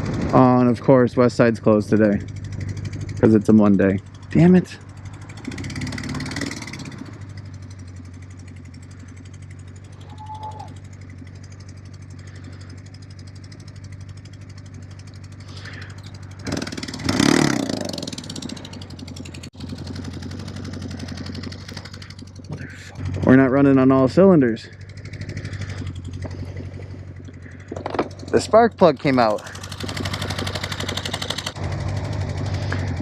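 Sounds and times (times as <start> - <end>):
motorcycle engine misfiring: 0.0 - 33.0.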